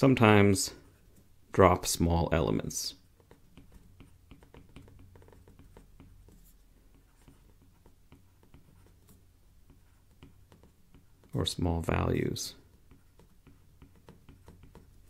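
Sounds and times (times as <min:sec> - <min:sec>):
stylus tapping and scratching: 0:00.8 - 0:15.0.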